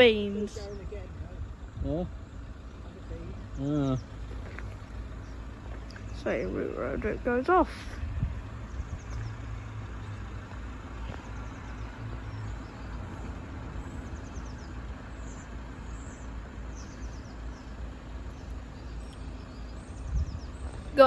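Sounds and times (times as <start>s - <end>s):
distant traffic rumble: 0.0s - 21.0s.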